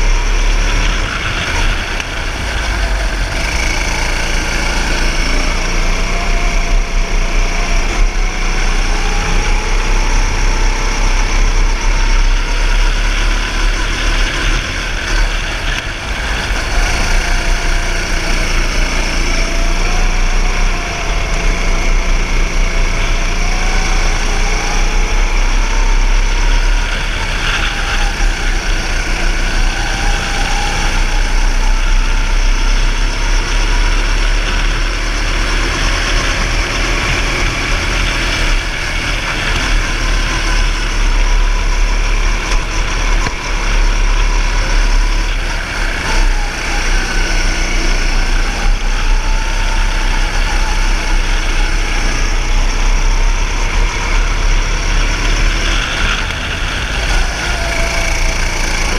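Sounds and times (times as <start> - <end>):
go-kart engine running: 0.0 - 58.9.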